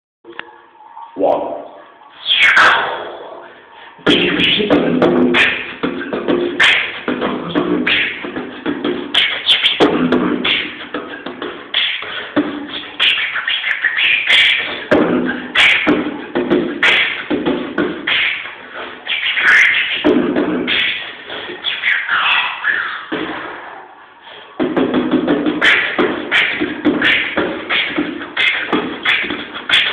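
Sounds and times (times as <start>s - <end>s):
man beatboxing: 1.2s - 29.9s.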